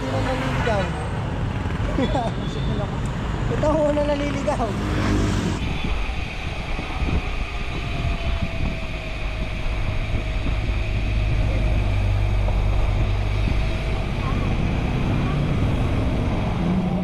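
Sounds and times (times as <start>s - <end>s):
wind rumbling on microphone: 1.4s - 17.0s.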